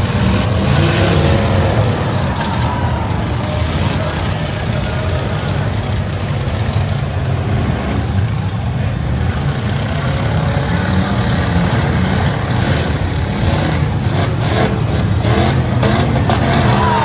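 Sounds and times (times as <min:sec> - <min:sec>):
car engines running loud: 0:00.0 - 0:17.0.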